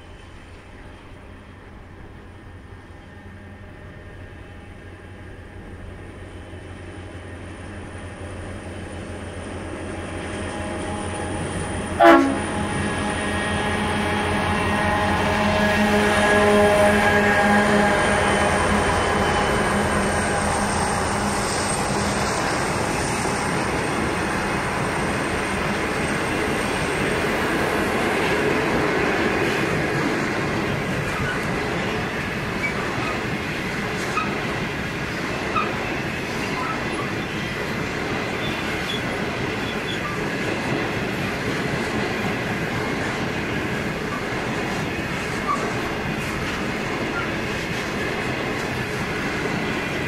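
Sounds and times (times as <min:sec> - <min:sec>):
diesel locomotive engine: 0:00.0 - 0:50.0.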